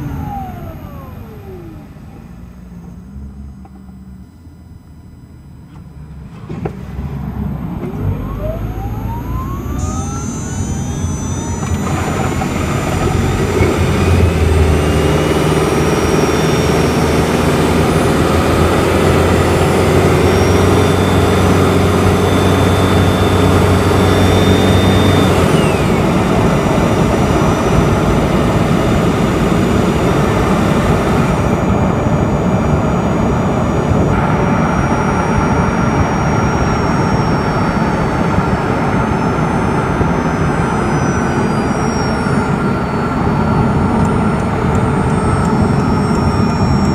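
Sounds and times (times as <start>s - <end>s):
electric motor whine: 0.0s - 46.9s
petrol engine running: 0.0s - 46.9s
road noise: 5.5s - 46.9s.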